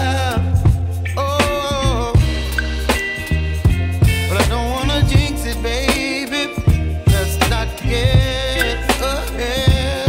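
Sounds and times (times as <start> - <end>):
hip hop music with heavy bass: 0.0 - 10.0.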